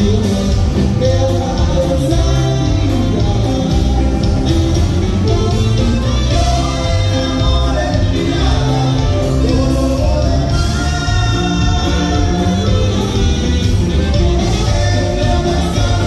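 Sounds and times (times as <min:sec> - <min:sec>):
live band dance music with singing: 0:00.0 - 0:16.0.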